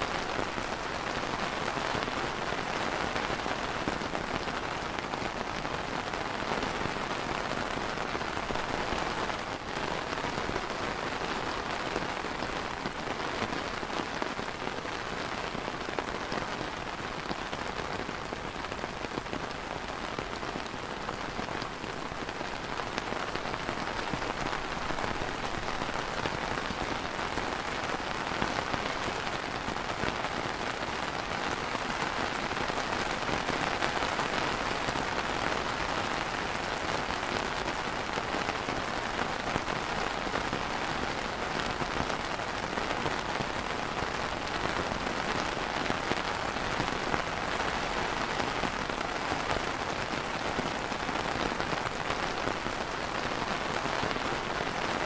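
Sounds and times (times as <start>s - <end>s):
rain on an umbrella: 0.0s - 55.0s.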